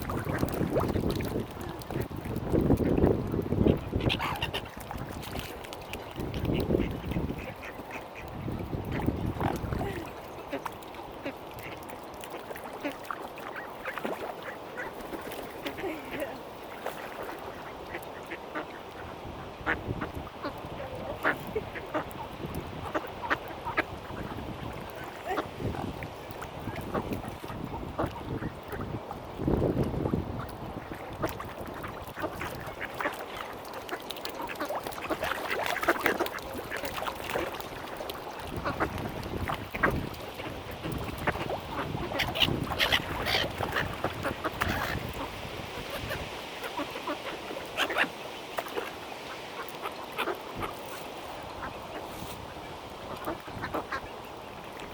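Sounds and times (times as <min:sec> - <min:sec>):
ducks quacking: 0:03.6 - 0:04.8, 0:06.4 - 0:25.9, 0:26.6 - 0:29.0, 0:30.4 - 0:37.5, 0:38.5 - 0:50.8, 0:51.5 - 0:54.2.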